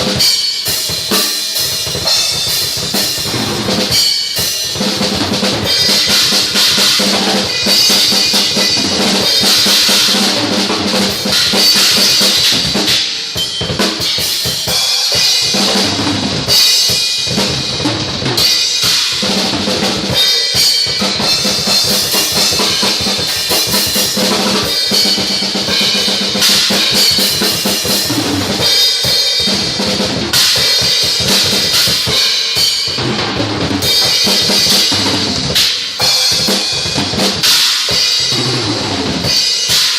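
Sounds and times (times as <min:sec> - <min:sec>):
crash and ride cymbals: 0:00.0 - 0:39.9.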